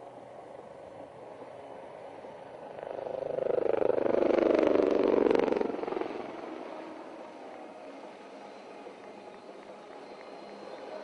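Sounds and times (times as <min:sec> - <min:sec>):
helicopters flying past: 0:00.4 - 0:11.0.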